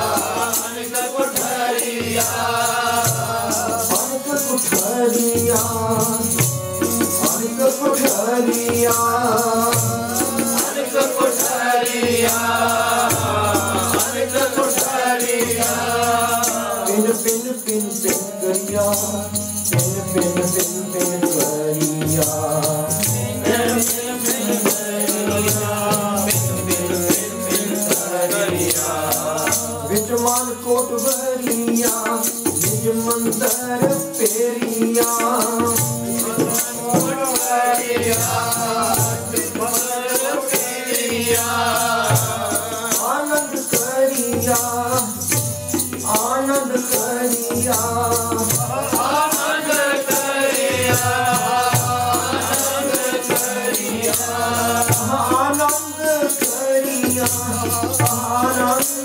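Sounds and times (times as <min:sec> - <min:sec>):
harmonium chords: 0:00.0 - 0:59.0
rhythmic percussive rattle: 0:00.0 - 0:59.0
tabla: 0:00.0 - 0:59.0.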